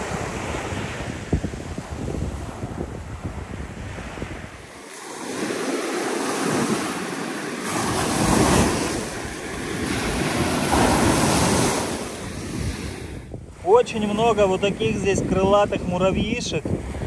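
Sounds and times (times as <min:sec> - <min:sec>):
surf breaking on beach: 0:00.0 - 0:15.8
wind on microphone: 0:00.0 - 0:17.0.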